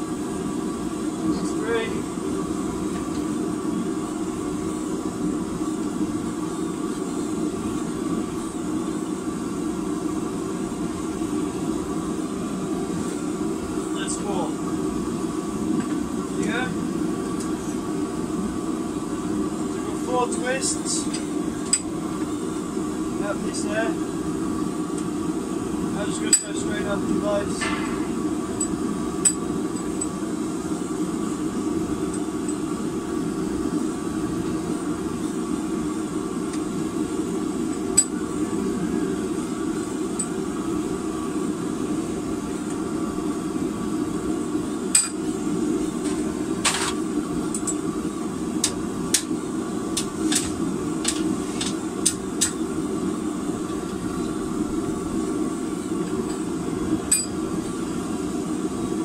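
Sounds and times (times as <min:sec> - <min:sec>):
gas forge burner roaring: 0:00.0 - 0:59.0.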